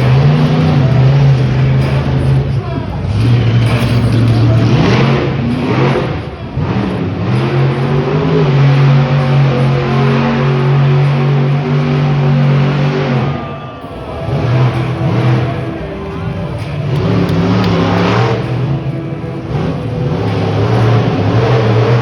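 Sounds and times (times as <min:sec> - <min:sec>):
monster truck engine revving: 0:00.0 - 0:22.0.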